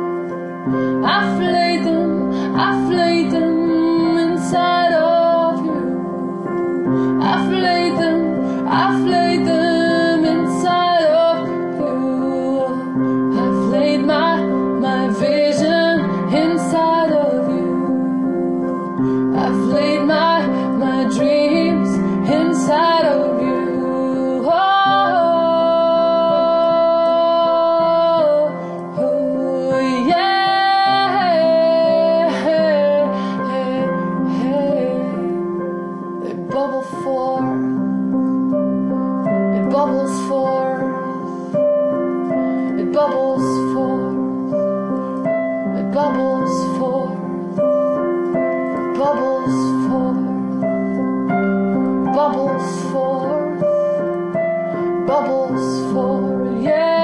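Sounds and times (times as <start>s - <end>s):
sustained piano chords: 0.0s - 57.0s
woman singing: 0.6s - 57.0s.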